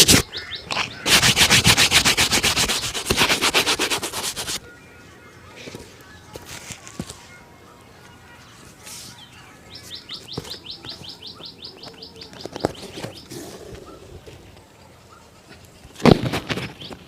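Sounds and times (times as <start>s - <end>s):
bird chirping: 0.0s - 1.6s, 4.2s - 15.9s, 16.5s - 17.0s.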